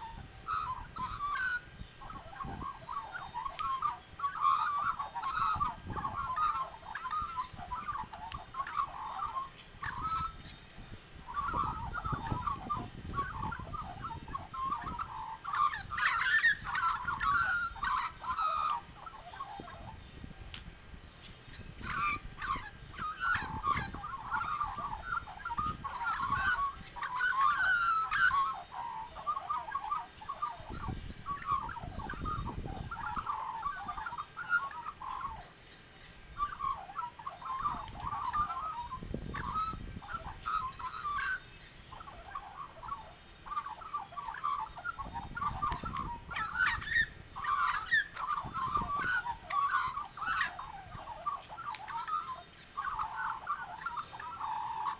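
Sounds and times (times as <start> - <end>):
magpies warbling: 0.0 - 20.4, 21.4 - 54.9.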